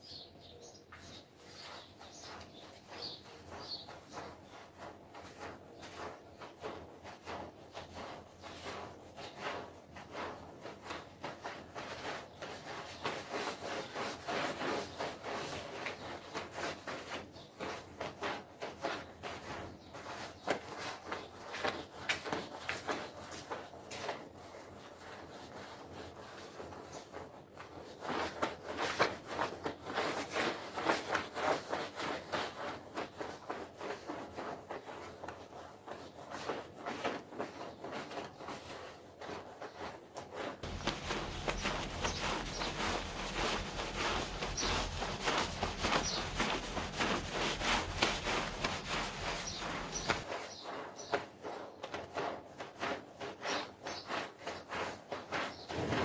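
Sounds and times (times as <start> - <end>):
scrubbing strokes on carpet: 0.0 - 56.0.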